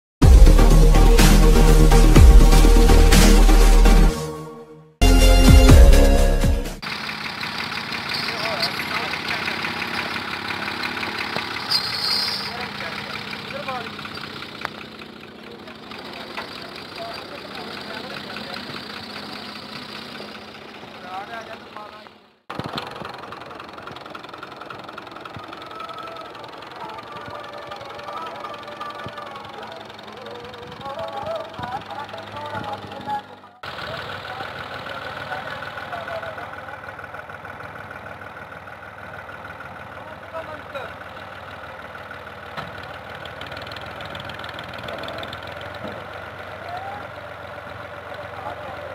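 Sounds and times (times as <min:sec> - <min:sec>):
engine idling with rapid clatter: 0:06.8 - 0:48.9.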